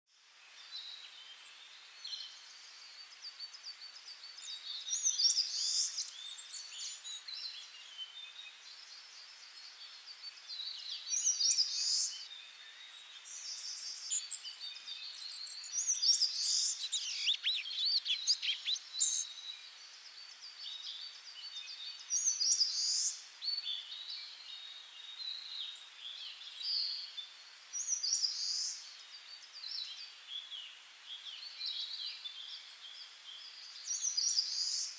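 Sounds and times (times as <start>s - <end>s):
faint steady hiss: 0.1s - 34.9s
songbirds singing and chirping: 0.1s - 34.9s.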